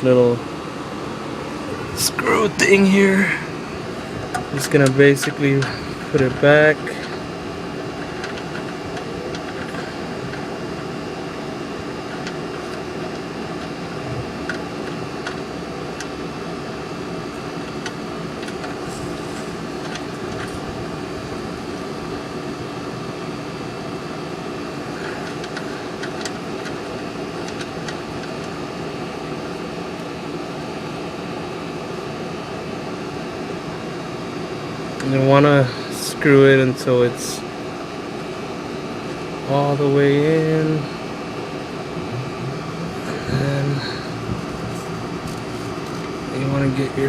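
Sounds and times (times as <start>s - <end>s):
steady background hum and hiss: 0.0s - 47.0s.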